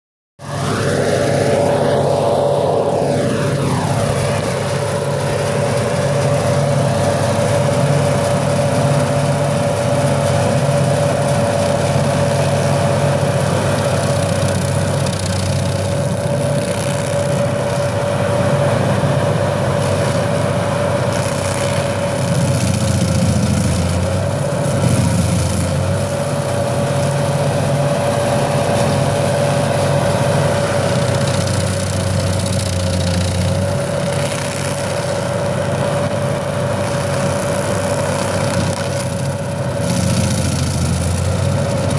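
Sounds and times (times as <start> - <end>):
cutter wheel high whine: 0.4 - 41.9
stump grinder engine drone: 0.4 - 41.9.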